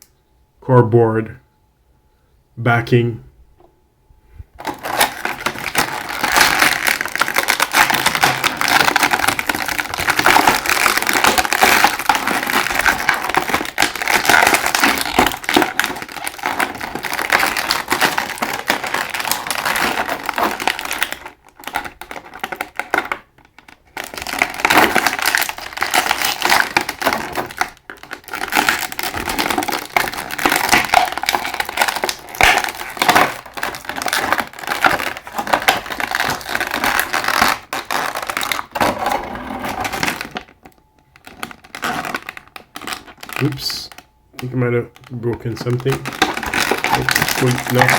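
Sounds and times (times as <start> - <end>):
packaging crinkling and rustling: 4.6 - 47.9.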